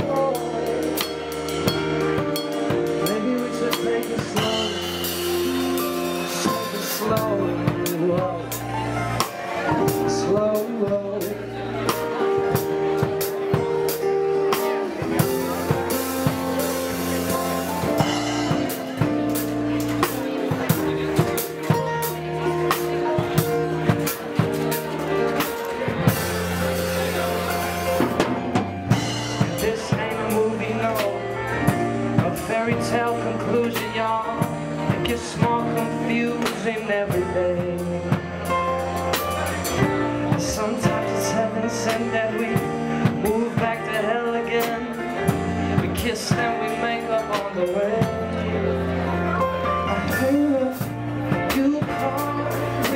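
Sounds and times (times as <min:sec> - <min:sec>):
bass and keyboard chords: 0:00.0 - 0:52.9
drum kit steady beat: 0:00.0 - 0:52.9.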